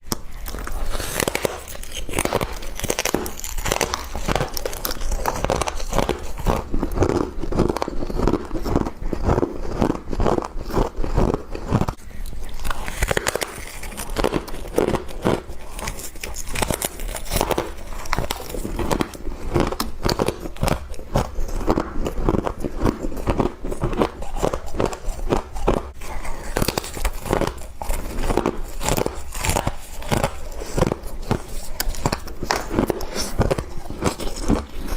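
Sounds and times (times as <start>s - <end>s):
person chewing frost crunching: 0.0s - 34.9s.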